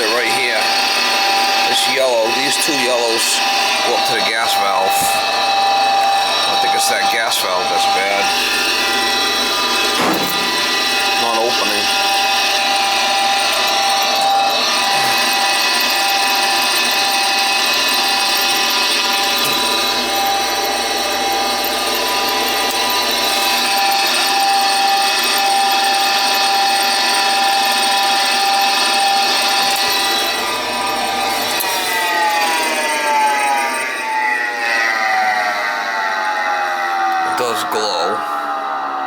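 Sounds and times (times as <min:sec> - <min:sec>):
furnace motor whining: 0:00.0 - 0:39.0.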